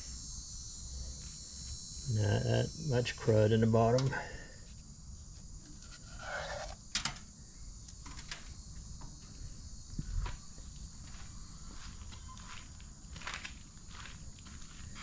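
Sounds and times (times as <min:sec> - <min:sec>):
high-pitched insect chirring: 0:00.0 - 0:15.0.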